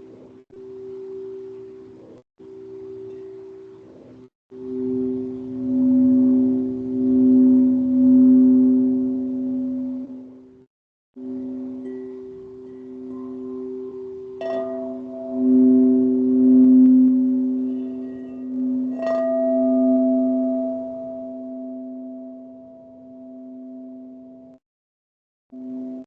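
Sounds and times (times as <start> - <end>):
singing bowls ringing: 0.5 - 24.6.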